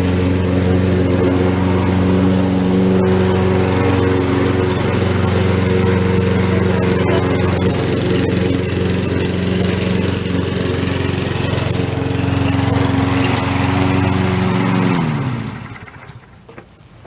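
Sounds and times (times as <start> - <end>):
lawn mower engine running: 0.0 - 16.6.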